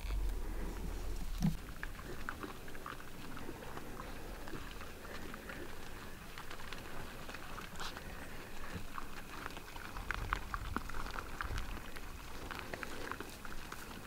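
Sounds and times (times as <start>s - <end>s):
dry grass rustling and crackling: 0.0s - 14.0s.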